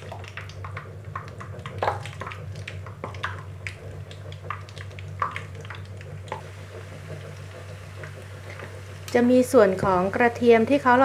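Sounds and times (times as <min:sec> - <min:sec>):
low steady hum: 0:00.0 - 0:11.0
meat frying in bubbling oil: 0:00.0 - 0:11.0.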